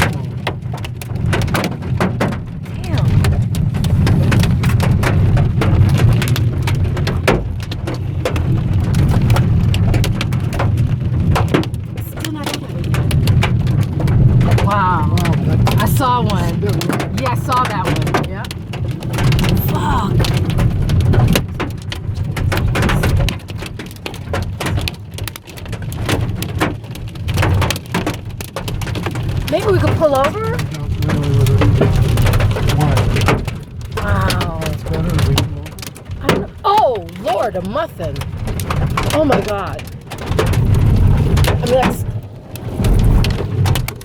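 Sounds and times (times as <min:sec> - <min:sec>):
engine and road rumble: 0:00.0 - 0:44.0
hailstones hitting car roof: 0:00.0 - 0:44.0.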